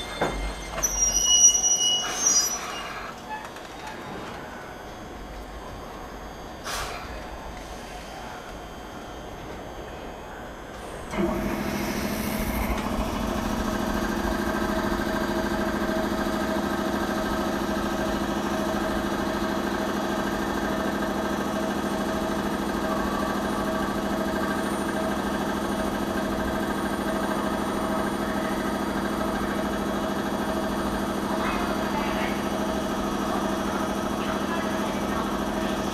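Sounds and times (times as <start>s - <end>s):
train mechanical hum: 0.0s - 35.9s.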